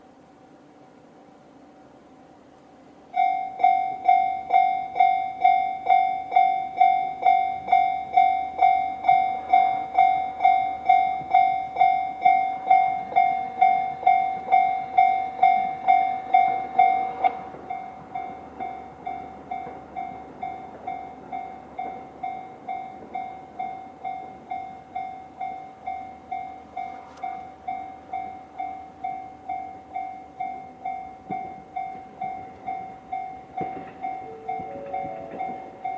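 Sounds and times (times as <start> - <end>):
level crossing alarm bell: 3.1 - 35.9.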